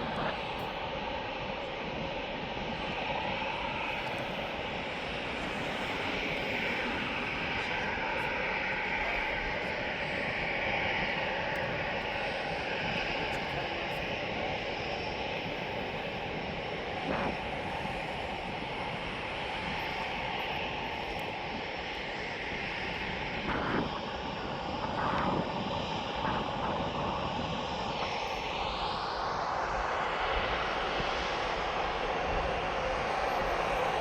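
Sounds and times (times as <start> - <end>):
jet engines rushing and whining: 0.0 - 34.0.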